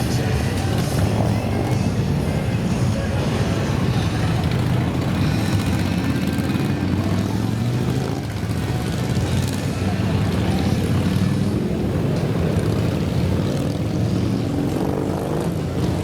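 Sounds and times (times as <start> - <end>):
motorcycle engines droning: 0.0 - 16.0.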